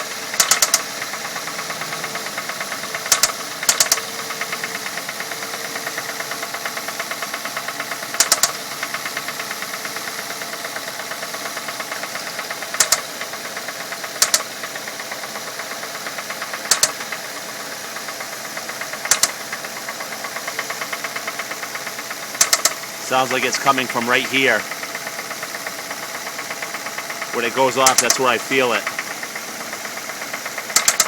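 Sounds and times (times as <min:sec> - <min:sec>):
fast steady engine ticking: 0:00.0 - 0:17.3, 0:18.1 - 0:31.0.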